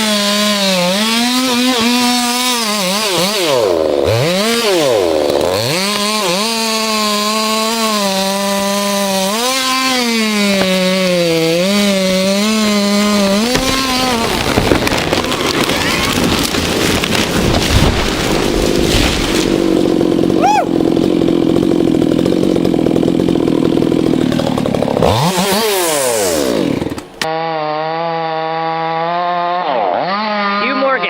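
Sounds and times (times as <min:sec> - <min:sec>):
chainsaw cutting at high revs: 0:00.0 - 0:31.0.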